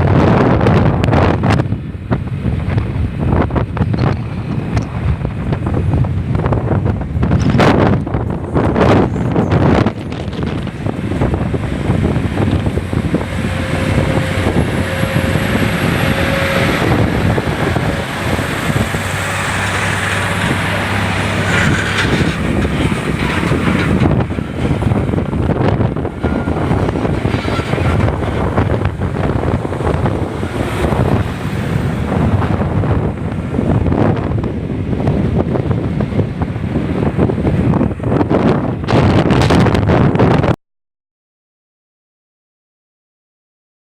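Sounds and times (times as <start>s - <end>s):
vehicle and road noise: 0.0s - 40.6s
wind buffeting microphone: 0.0s - 40.6s.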